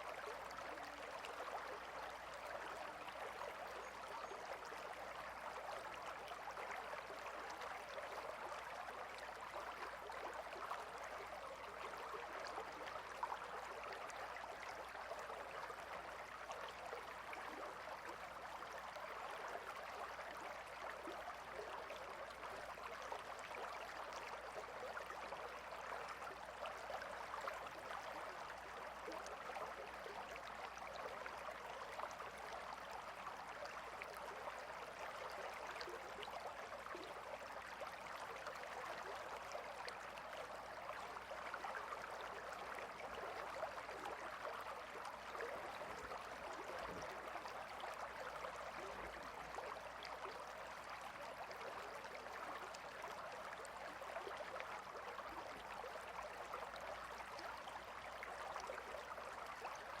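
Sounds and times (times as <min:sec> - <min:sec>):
river babbling: 0:00.1 - 0:59.9.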